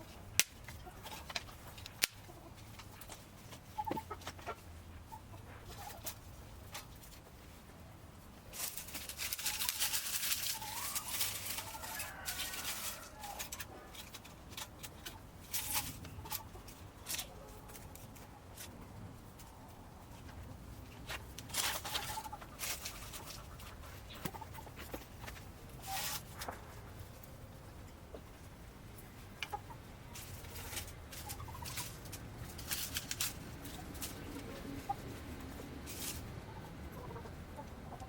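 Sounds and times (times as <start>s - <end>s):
crackling noise: 0.0s - 38.0s
chickens clucking: 0.1s - 38.0s.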